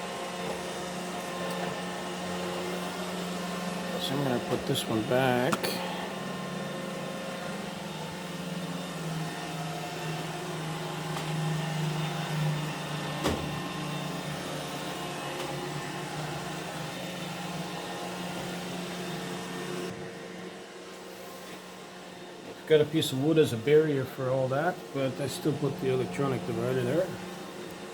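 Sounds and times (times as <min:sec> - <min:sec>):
robot vacuum humming: 0:00.0 - 0:27.9.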